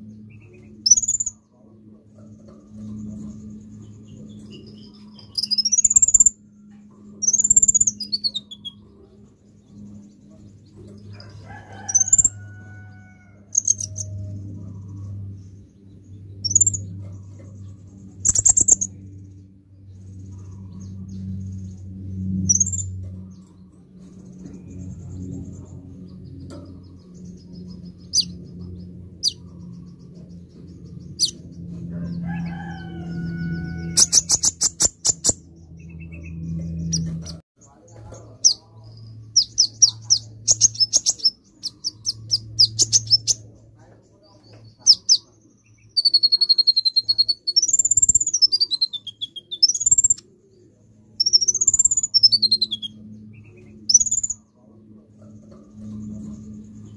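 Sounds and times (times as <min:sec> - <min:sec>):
bird chirping: 0:00.0 - 0:56.9
low steady hum: 0:00.0 - 0:56.9.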